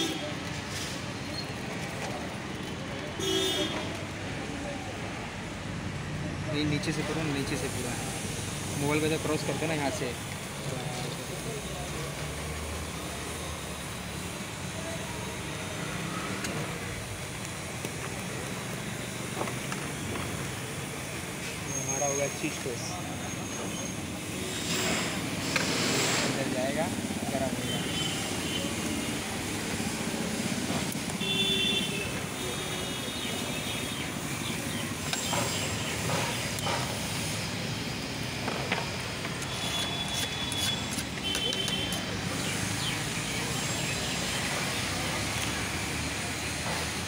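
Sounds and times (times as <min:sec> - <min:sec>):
street traffic hum: 0:00.0 - 0:47.0
gas burner hissing: 0:06.7 - 0:47.0.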